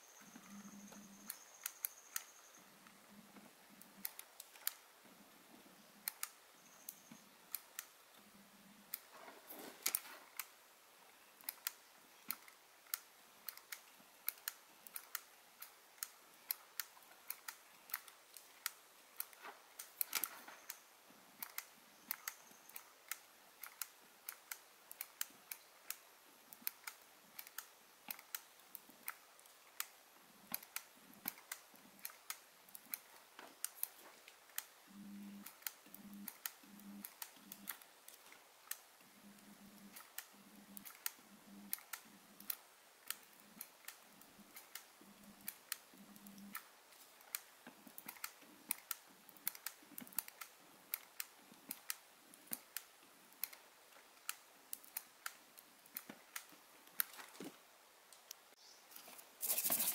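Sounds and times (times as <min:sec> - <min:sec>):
faint hiss: 0:00.0 - 0:59.9
soldering clicks and ticks: 0:00.2 - 0:10.6, 0:11.3 - 0:58.5.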